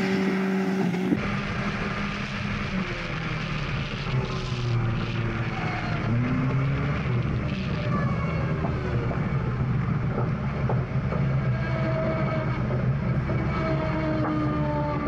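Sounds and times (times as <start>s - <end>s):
rally car engine running: 0.0s - 15.0s.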